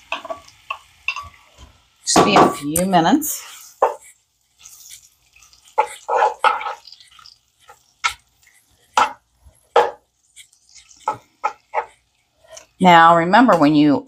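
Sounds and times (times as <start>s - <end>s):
spatula scraping meat in pan: 0.0s - 12.8s.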